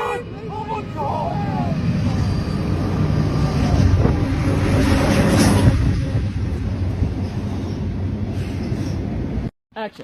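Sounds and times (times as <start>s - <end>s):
train passing with rumble: 0.0s - 9.5s.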